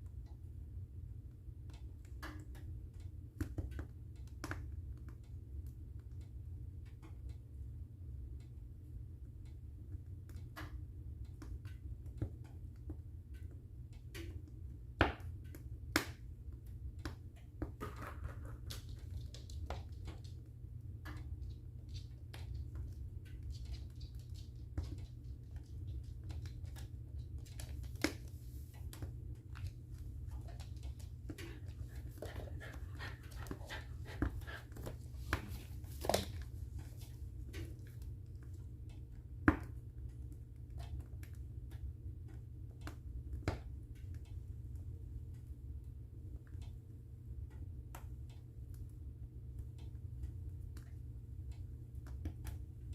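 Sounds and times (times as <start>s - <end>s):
wood fire crackling and popping: 1.3s - 7.5s, 8.4s - 45.5s.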